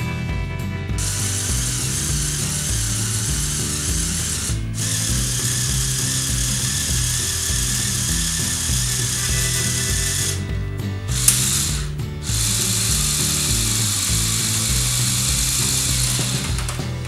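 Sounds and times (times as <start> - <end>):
background music: 0.0 - 17.0
small electric motor whirring: 1.0 - 17.0.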